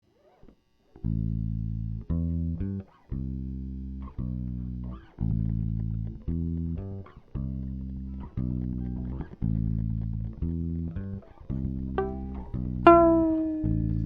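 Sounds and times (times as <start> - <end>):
low plucked string notes: 1.0 - 14.0.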